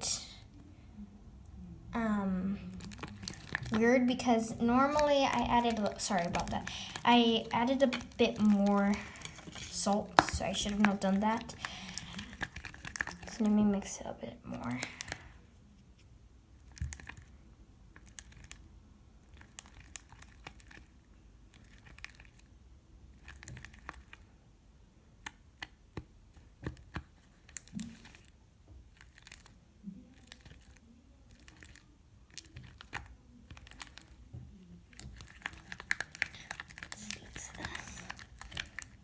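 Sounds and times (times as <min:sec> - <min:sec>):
slime being stirred: 0:02.6 - 0:22.5, 0:23.1 - 0:24.4, 0:25.2 - 0:39.0.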